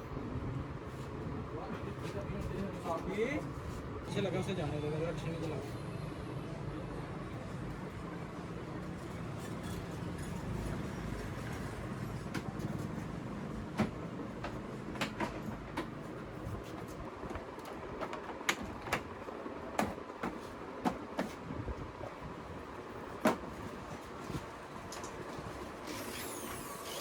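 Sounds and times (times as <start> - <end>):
steady factory hum: 0.0 - 27.0.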